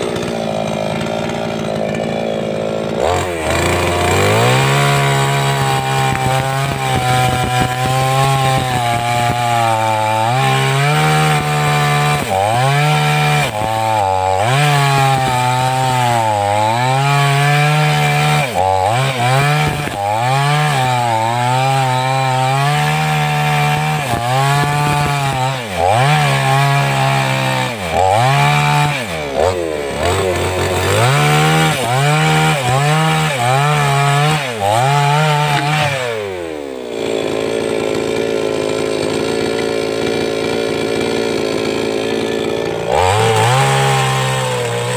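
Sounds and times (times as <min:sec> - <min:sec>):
chainsaw cutting through wood: 0:00.0 - 0:44.9.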